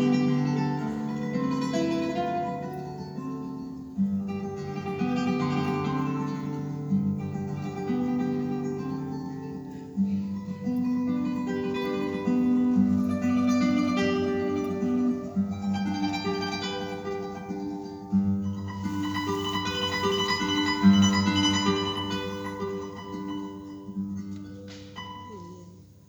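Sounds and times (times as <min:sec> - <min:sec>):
solo classical guitar: 0:00.0 - 0:26.0.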